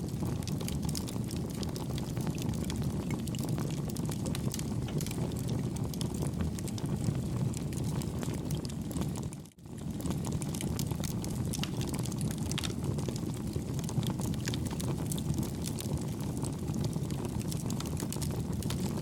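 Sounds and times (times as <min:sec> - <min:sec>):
fire crackling and popping: 0:00.0 - 0:19.0
low rush of flames: 0:00.0 - 0:19.0.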